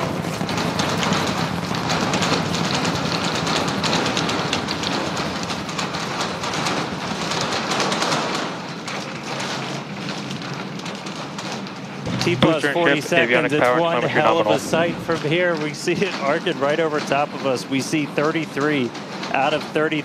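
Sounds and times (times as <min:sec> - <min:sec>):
rocket engines crackling rumble: 0:00.0 - 0:20.0.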